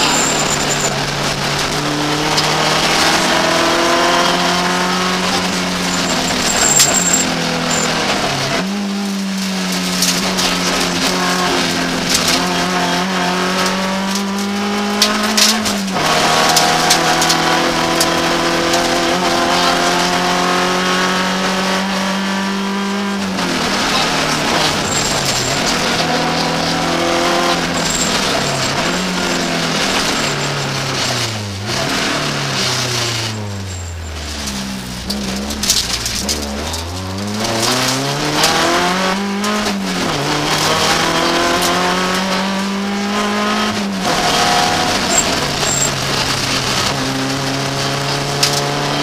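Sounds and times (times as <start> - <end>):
car engine revving: 0.0 - 49.0
tyre and road noise: 0.0 - 49.0.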